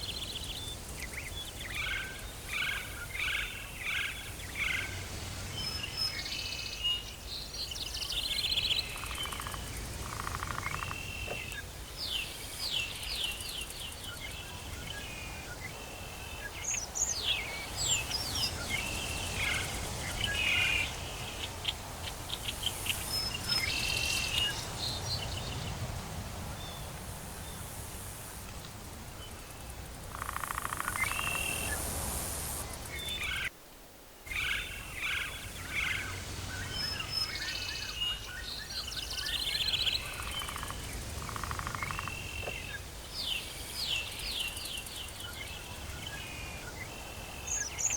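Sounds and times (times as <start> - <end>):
birds chirping and trilling: 0.0 - 25.9, 29.2 - 33.5, 34.3 - 47.9.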